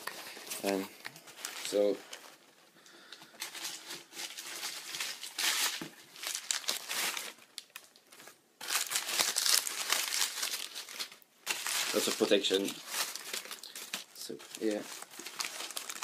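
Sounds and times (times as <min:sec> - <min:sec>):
packing material crinkling: 0:00.0 - 0:16.0.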